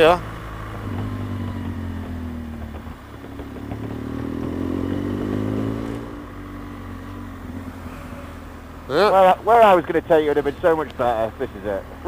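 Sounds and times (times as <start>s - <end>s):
motorcycle engine accelerating: 0.0s - 11.6s.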